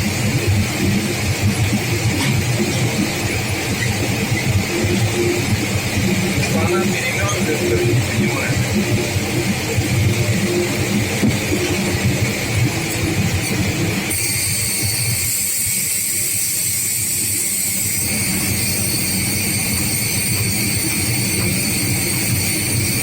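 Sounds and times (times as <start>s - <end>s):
petrol engine running: 0.0s - 23.0s.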